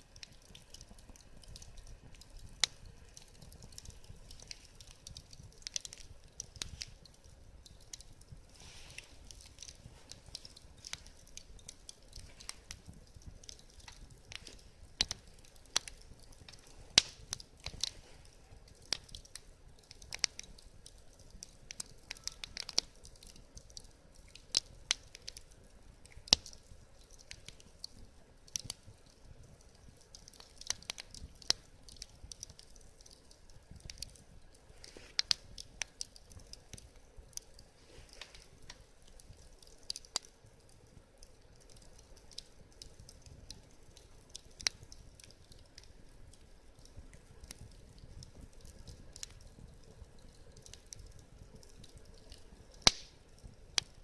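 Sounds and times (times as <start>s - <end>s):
burning wood hissing: 0.0s - 54.0s
wood fire crackling and popping: 0.0s - 54.0s.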